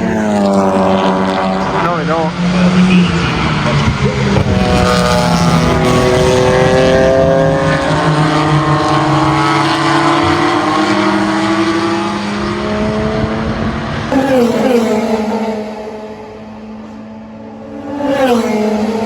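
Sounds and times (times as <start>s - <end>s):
car passing by: 0.0s - 19.0s
race car engine at full throttle: 0.0s - 19.0s.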